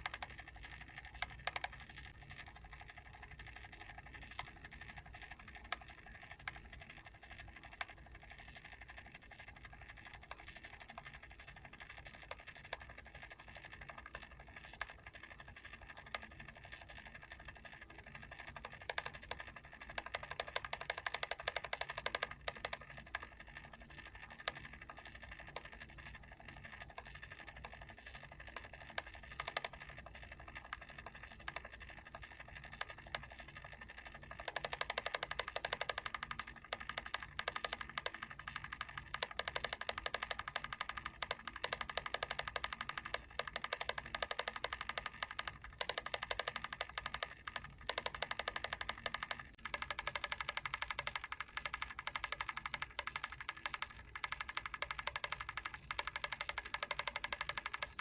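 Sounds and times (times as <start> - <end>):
mechanical timer clicking: 0.0 - 58.0.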